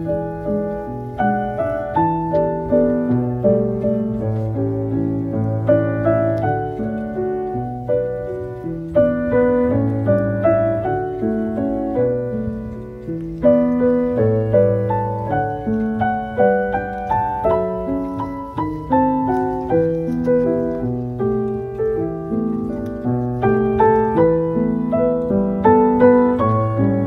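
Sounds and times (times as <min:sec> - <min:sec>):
slow piano melody: 0:00.0 - 0:27.0.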